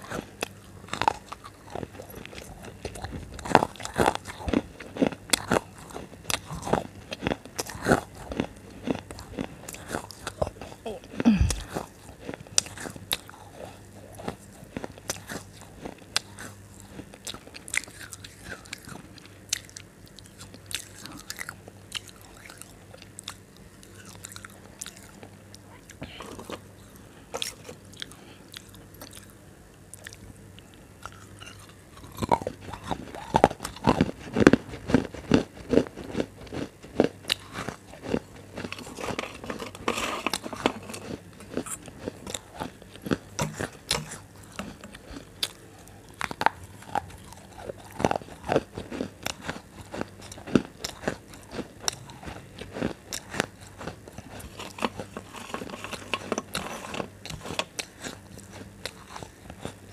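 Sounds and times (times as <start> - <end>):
crunchy food being chewed: 0.0 - 59.9.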